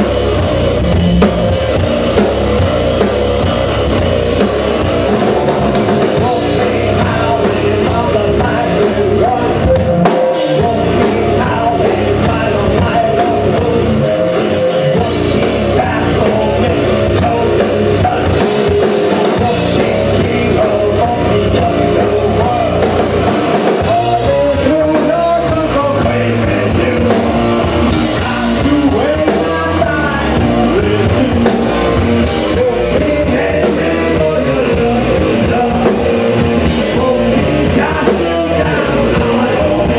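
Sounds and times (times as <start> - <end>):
drum kit with cymbal strikes: 0.0 - 39.9
electric guitar: 0.0 - 39.9
man singing: 0.0 - 39.9.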